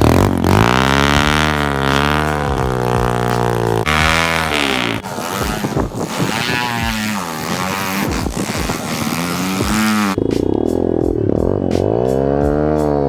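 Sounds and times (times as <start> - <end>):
motorbike engine revving hard: 0.0 - 13.0.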